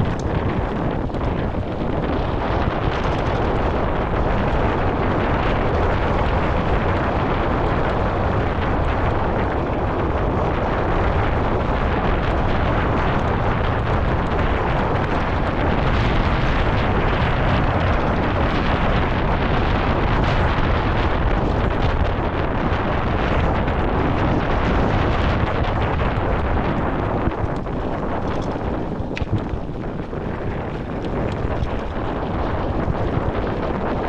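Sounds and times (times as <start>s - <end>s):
bike rattling over dirt: 0.0s - 34.0s
wind buffeting microphone: 0.0s - 34.0s.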